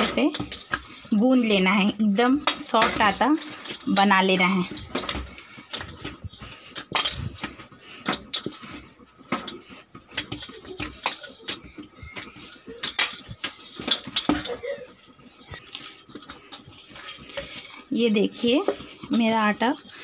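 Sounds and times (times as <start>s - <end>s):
hands kneading wet dough: 0.0s - 20.0s.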